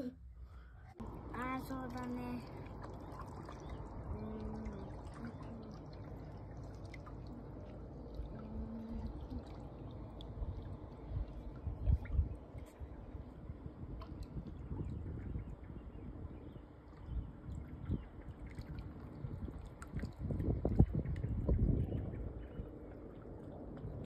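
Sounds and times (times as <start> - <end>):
water sloshing in a pool: 0.9 - 24.0.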